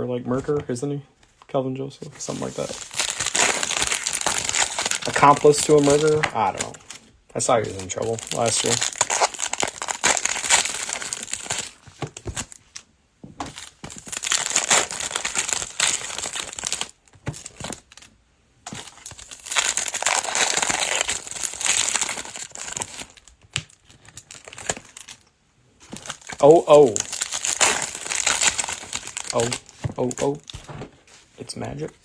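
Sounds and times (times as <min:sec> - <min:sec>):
plastic wrapping crinkling and tearing: 0:02.1 - 0:18.1, 0:18.7 - 0:32.0.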